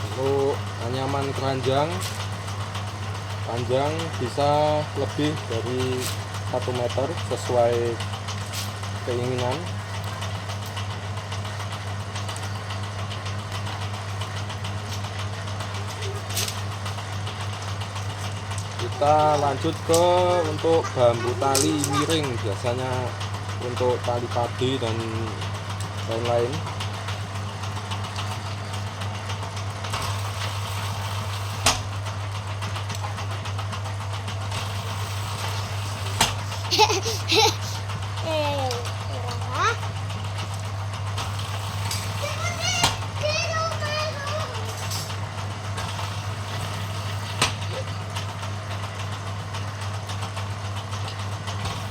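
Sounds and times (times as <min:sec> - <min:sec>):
machine humming: 0:00.0 - 0:51.9.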